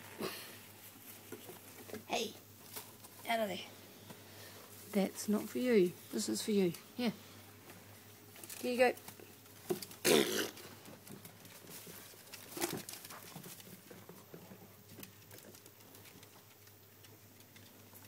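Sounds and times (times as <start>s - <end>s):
faint scuffs and ticks of play: 0.7s - 18.0s.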